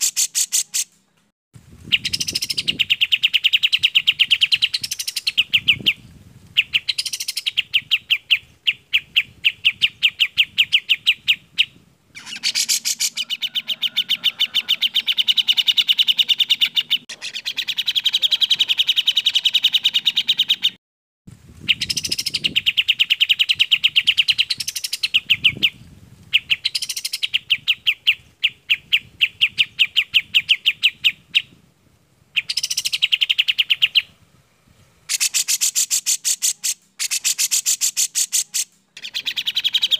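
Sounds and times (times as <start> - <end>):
birds singing fast trills: 1.9 - 20.8, 21.6 - 31.6, 32.3 - 34.2, 35.1 - 39.9.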